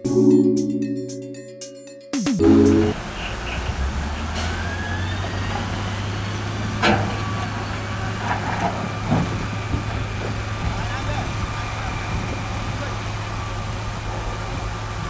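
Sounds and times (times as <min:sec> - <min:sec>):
diesel construction machinery droning: 0:02.4 - 0:15.0.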